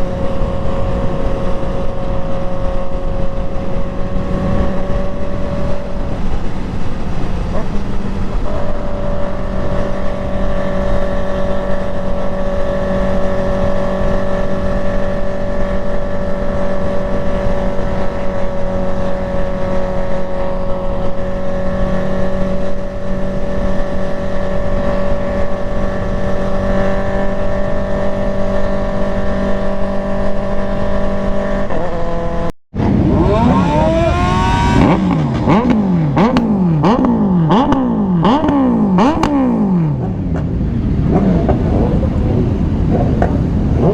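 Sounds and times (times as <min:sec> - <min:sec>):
engine revving: 0:00.0 - 0:43.9
motorcycle engine running: 0:00.0 - 0:43.9.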